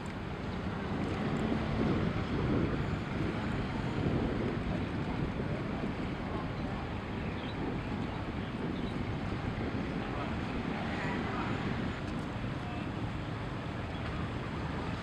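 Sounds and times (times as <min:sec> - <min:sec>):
wind on microphone: 0:00.0 - 0:12.5
faint engine hum: 0:00.0 - 0:15.0
river and boat traffic rumble: 0:00.0 - 0:15.0.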